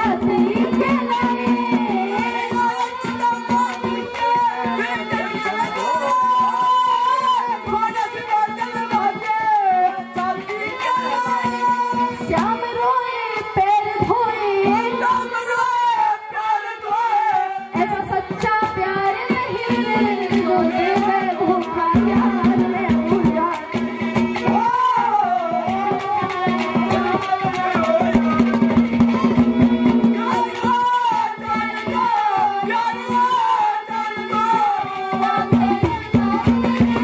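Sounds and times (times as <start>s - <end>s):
hand percussion on drums and pots: 0.0s - 15.9s, 17.7s - 37.0s
harmonium: 0.0s - 37.0s
woman singing: 0.0s - 37.0s.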